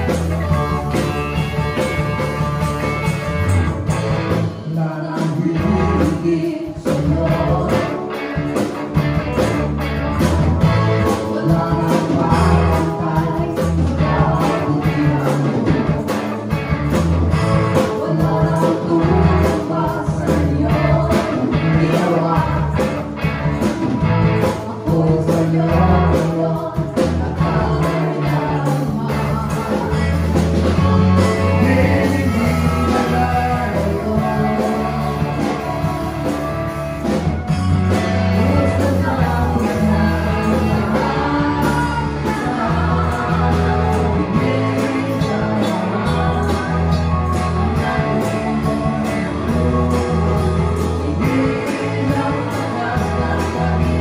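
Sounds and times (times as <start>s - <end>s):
drums: 0.0s - 54.0s
electric guitar: 0.0s - 54.0s
keyboard: 0.0s - 54.0s
person singing: 0.0s - 54.0s.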